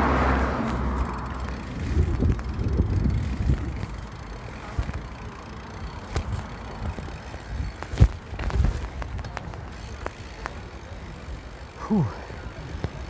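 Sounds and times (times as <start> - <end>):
low rumble of bicycle riding: 0.0 - 13.0
clicks and knocks from bicycle: 0.6 - 11.0, 12.7 - 13.0.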